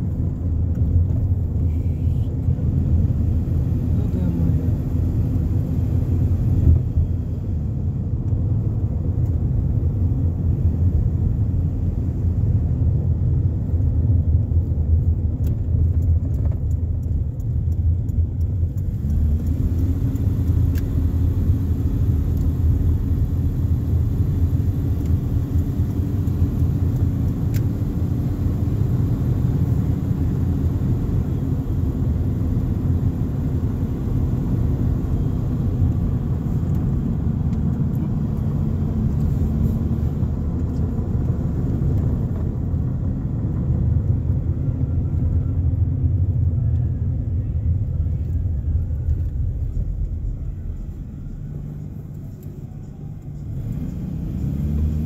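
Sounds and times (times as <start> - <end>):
car engine and road rumble: 0.0 - 55.0
engine hum: 0.0 - 55.0.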